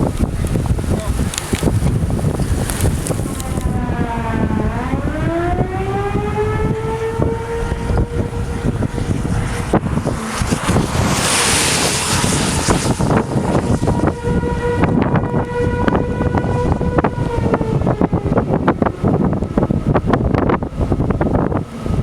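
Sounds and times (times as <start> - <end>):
wind buffeting microphone: 0.0 - 22.0
warning siren wailing: 2.3 - 22.0.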